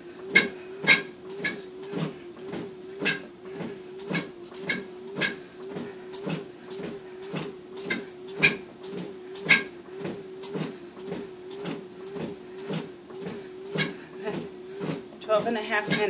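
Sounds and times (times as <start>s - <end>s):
treadmill motor hum: 0.0s - 16.0s
footfalls on treadmill belt: 0.2s - 16.0s.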